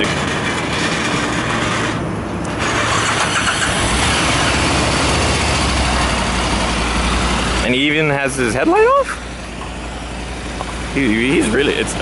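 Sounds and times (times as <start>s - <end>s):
deep engine drone: 0.0s - 12.0s
road noise: 0.0s - 12.0s
traffic engines running: 0.0s - 12.0s.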